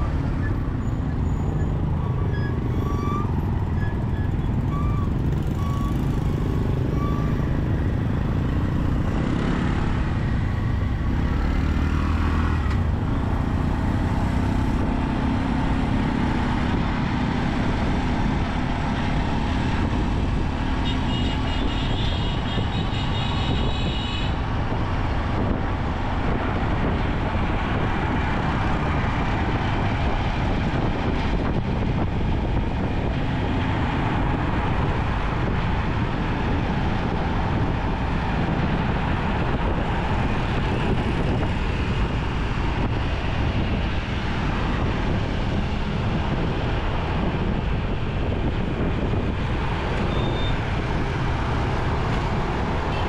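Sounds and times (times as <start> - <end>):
traffic noise: 0.0 - 53.0.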